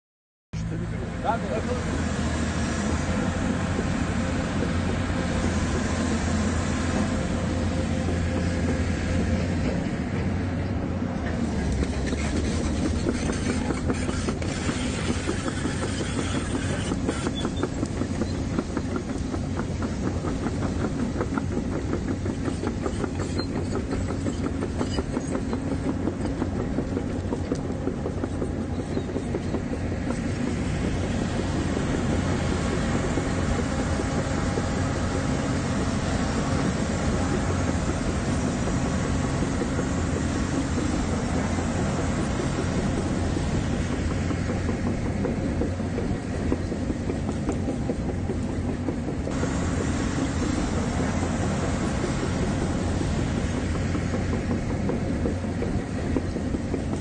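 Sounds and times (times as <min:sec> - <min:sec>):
diesel engine humming: 0:00.6 - 0:57.0
steel tracks clanking: 0:00.6 - 0:57.0.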